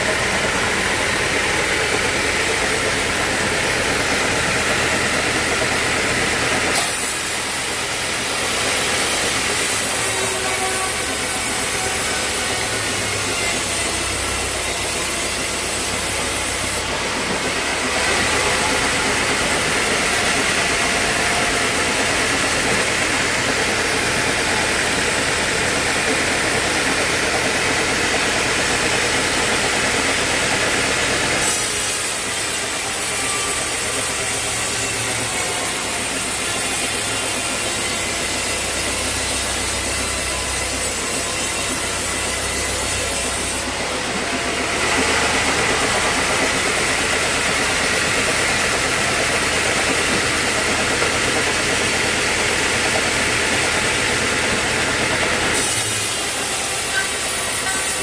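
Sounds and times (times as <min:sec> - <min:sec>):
mill machinery running: 0:00.0 - 0:58.0
saw cutting a log: 0:00.0 - 0:58.0.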